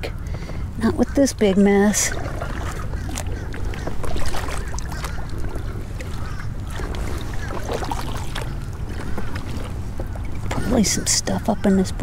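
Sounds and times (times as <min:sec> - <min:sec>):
kayak low rumble: 0:00.0 - 0:12.0
clicks along hull: 0:00.3 - 0:10.8
small water splashes: 0:01.1 - 0:11.4.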